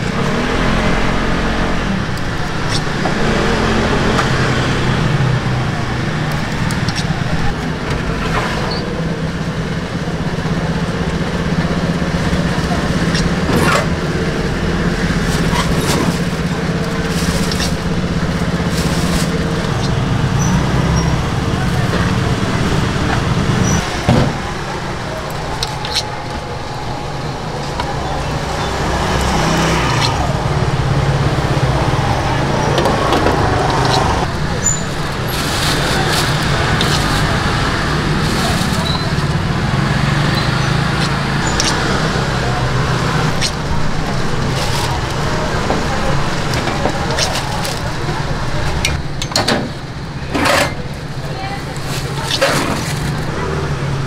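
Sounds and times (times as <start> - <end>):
indistinct voices: 0.0 - 54.0
traffic noise: 0.0 - 54.0.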